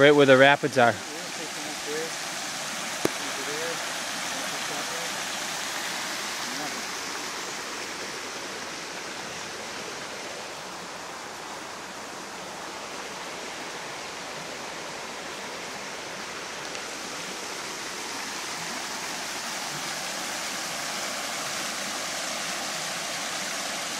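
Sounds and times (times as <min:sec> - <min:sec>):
water rushing over rapids: 0:00.0 - 0:23.9.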